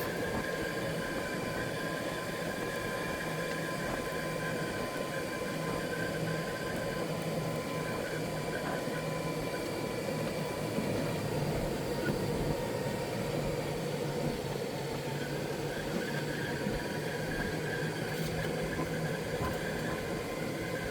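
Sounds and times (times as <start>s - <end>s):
golf cart humming and whining: 0.0s - 20.9s.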